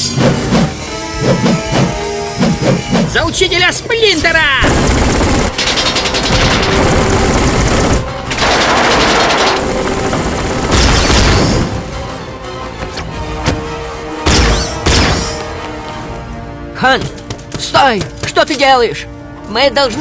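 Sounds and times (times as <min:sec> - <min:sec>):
dramatic background music: 0:00.0 - 0:20.0.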